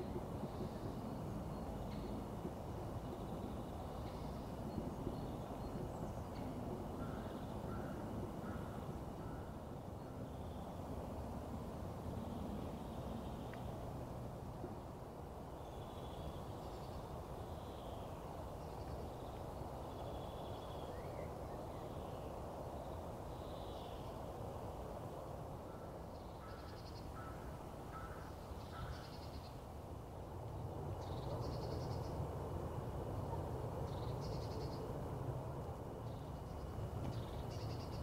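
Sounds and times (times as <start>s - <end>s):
low background noise: 0.0s - 38.0s.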